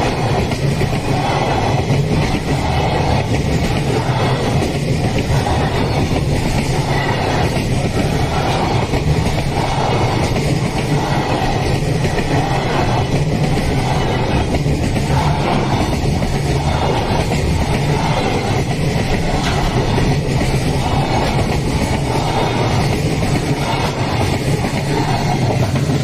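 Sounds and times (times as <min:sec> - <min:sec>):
freight train wheels on rail: 0:00.0 - 0:26.0.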